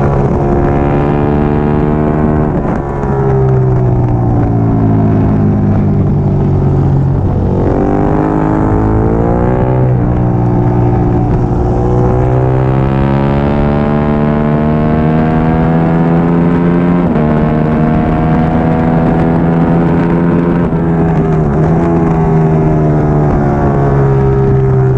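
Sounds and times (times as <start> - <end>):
motorcycle engine at race speed: 0.0 - 24.9.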